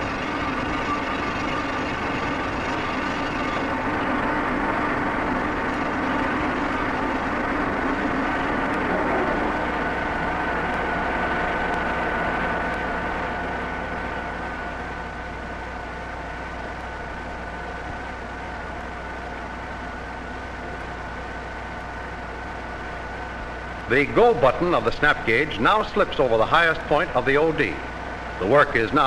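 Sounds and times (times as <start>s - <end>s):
high steady whine: 0.0s - 29.0s
lathe machine hum: 0.0s - 29.0s
lower machine tone: 0.0s - 29.0s.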